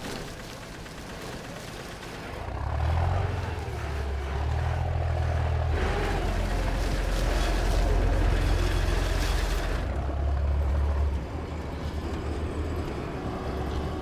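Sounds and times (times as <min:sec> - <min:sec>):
ferry engine rumbling: 0:00.0 - 0:14.0.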